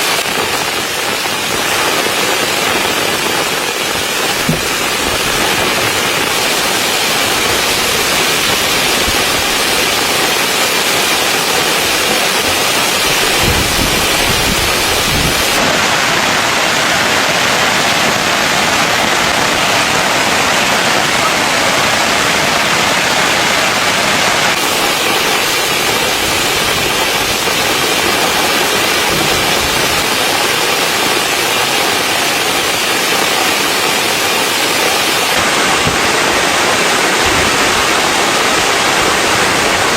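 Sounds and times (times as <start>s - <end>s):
rain pattering on tent: 0.0s - 39.9s.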